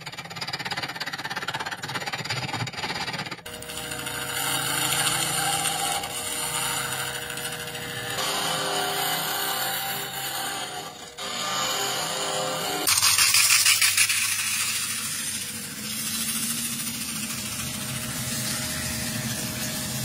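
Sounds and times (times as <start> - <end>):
hollowing tool scraping wood: 0.0 - 20.0
wood lathe motor hum: 2.8 - 20.0.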